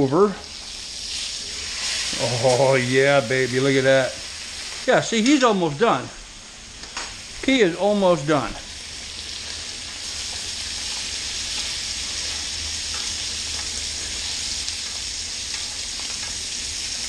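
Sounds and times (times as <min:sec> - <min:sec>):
steak sizzling in a skillet: 0:00.1 - 0:05.8, 0:06.4 - 0:17.0.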